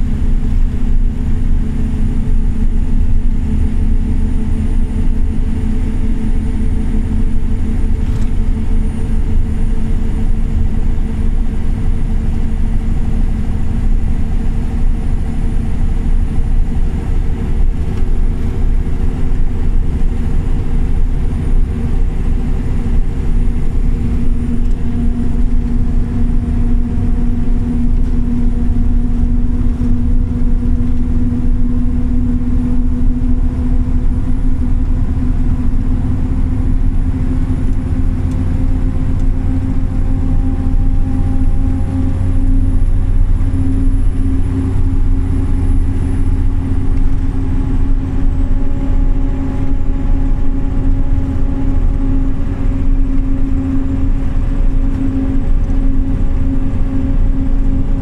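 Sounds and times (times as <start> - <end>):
bus engine drone: 0.0 - 58.0
loud road rumble: 0.0 - 58.0.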